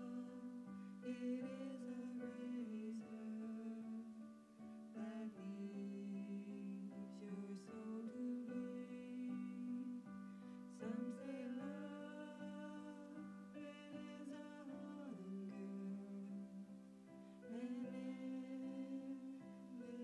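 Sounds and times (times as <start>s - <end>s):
slow music with held notes: 0.0s - 20.0s.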